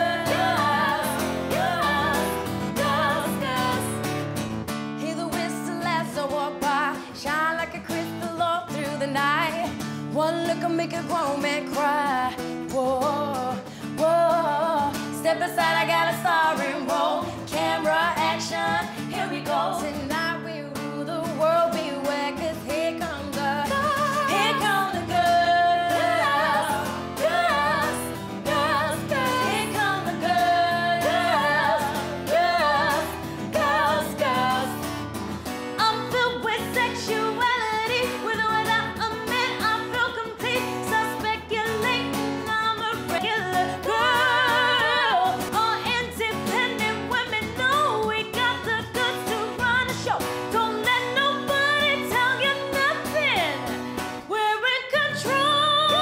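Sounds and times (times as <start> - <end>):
women singing with vibrato: 0.0 - 4.2, 5.0 - 56.0
strummed acoustic guitar: 0.0 - 56.0.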